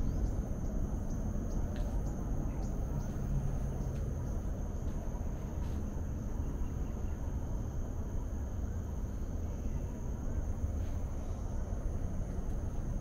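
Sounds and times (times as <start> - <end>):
distant traffic rumble: 0.0 - 13.0
high-pitched insect drone: 0.0 - 13.0
wind: 0.0 - 13.0.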